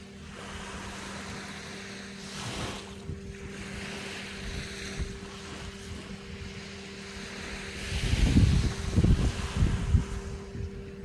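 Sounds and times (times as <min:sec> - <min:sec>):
small waves washing on sand: 0:00.0 - 0:11.0
steady low hum: 0:00.0 - 0:11.0.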